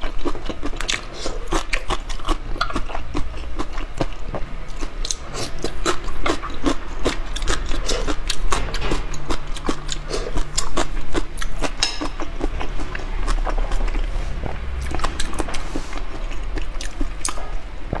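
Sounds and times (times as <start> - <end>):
mouth chewing food: 0.0 - 17.8.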